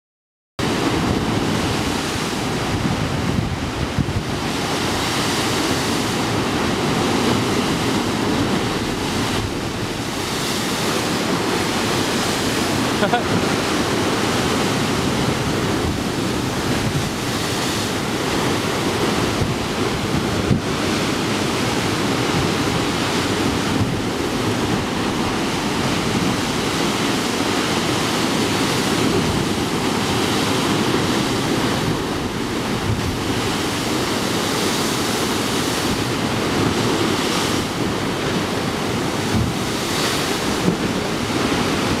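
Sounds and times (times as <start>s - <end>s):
waves crashing on rocks: 0.6s - 42.0s
wind buffeting microphone: 0.6s - 42.0s.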